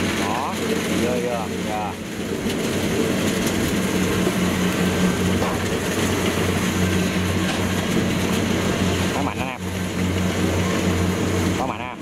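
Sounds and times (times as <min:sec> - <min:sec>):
combine harvester engine humming: 0:00.0 - 0:12.0
cutter and thresher rattling: 0:00.0 - 0:12.0.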